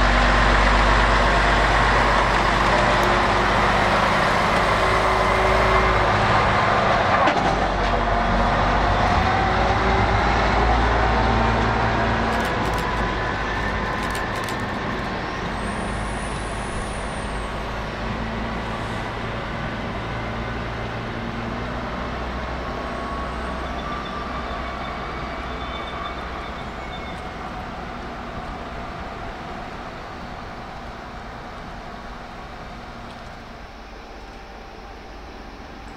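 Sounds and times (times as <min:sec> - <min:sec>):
rail truck diesel engine: 0:00.0 - 0:35.9.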